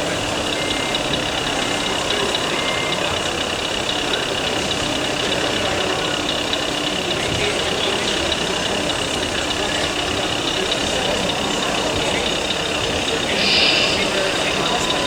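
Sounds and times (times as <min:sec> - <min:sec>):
electronic truck engine idling: 0:00.0 - 0:15.0.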